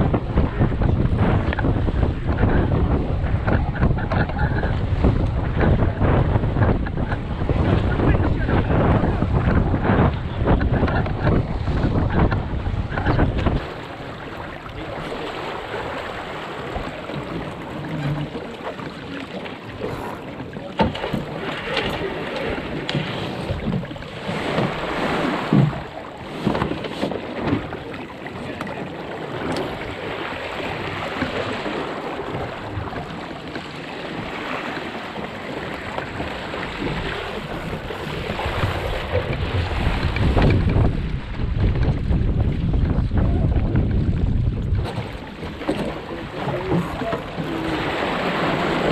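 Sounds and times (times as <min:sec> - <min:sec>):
gear knocking on boat: 0:00.0 - 0:48.9
water rushing along hull: 0:00.0 - 0:48.9
wind buffeting microphone: 0:00.0 - 0:48.9.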